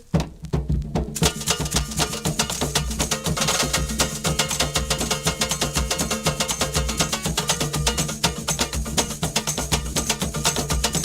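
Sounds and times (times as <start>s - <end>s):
fast hand percussion dance music: 0.0s - 11.0s.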